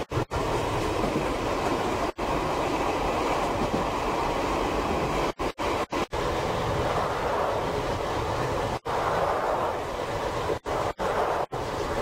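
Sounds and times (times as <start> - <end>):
train car running rumble: 0.0 - 12.0.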